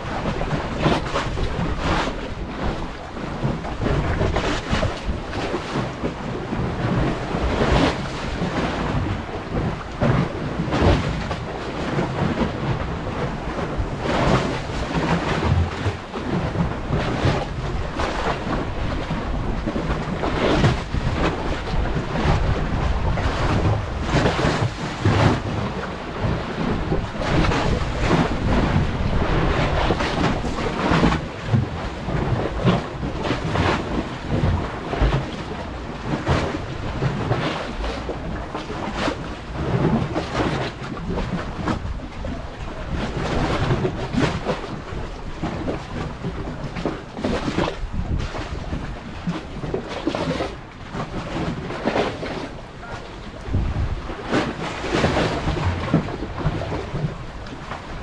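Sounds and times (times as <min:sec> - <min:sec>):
waves washing against seawall: 0:00.0 - 0:58.0
wind buffeting microphone: 0:00.0 - 0:58.0.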